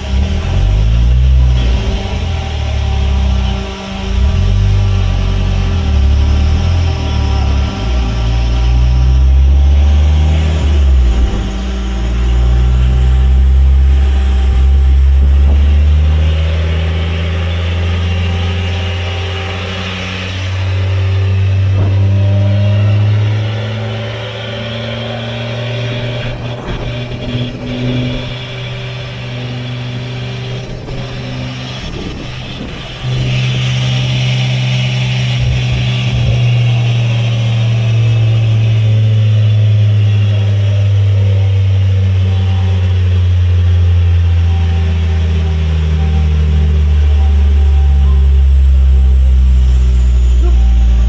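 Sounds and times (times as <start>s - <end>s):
car engine running under load: 0.0s - 51.0s.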